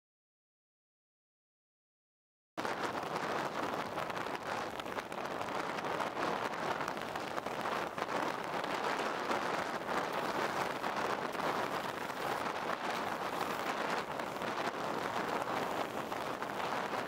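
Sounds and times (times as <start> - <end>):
choppy sea waves: 2.6 - 17.0
wind: 2.6 - 17.0.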